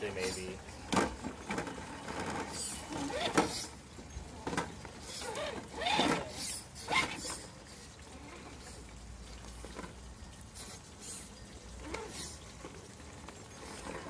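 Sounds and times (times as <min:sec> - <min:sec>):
tires scrabbling over rock: 0:00.0 - 0:08.8, 0:09.4 - 0:14.0
rc car motor whirring: 0:00.0 - 0:08.9, 0:09.5 - 0:14.0.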